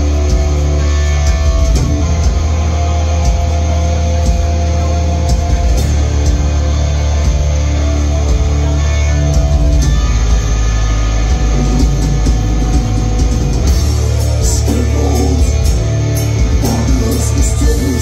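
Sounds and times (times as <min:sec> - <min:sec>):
live metal band playing: 0:00.0 - 0:18.0.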